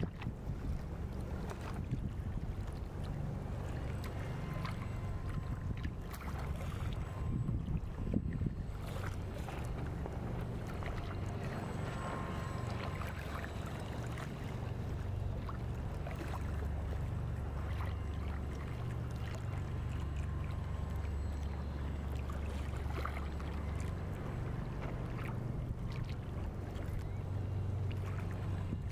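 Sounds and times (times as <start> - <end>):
low motor rumble: 0.0 - 28.9
water splashing: 0.0 - 28.9.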